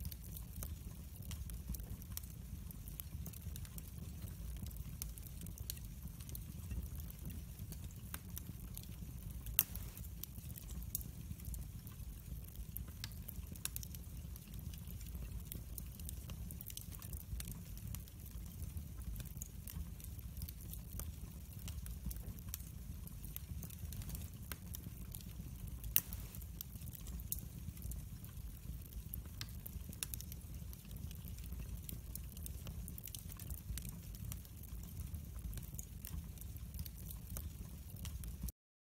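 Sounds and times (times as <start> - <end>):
fire crackles and pops: 0.0 - 38.5
fireplace flames rumbling: 0.0 - 38.5.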